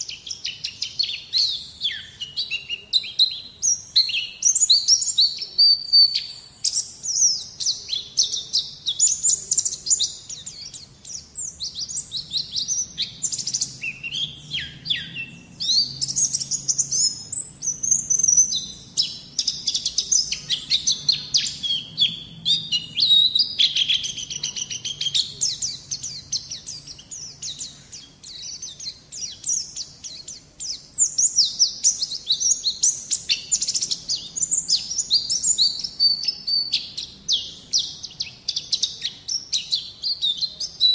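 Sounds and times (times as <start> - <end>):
bird chirps and twittering trills: 0.0 - 40.9.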